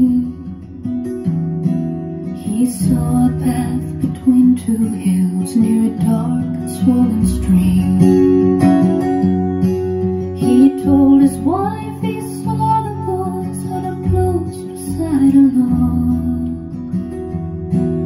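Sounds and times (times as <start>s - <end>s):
acoustic guitar plucked notes: 0.0s - 18.0s.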